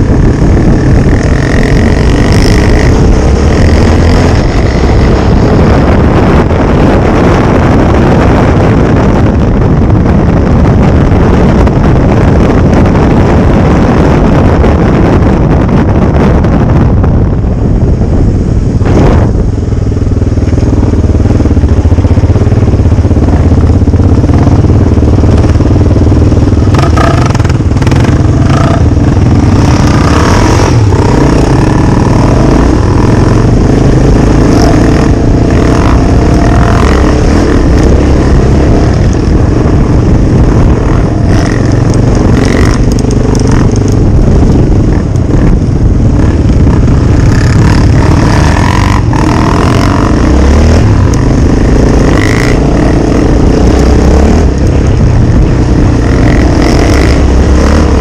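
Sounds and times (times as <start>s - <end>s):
motor vehicle noise: 0.0s - 58.0s.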